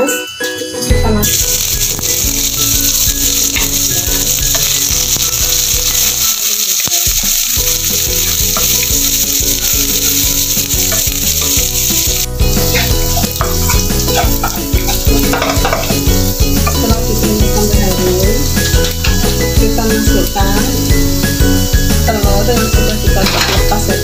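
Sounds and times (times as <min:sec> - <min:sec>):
paste sizzling in hot oil: 0:01.0 - 0:24.0
wooden spatula scraping wok: 0:01.3 - 0:24.0.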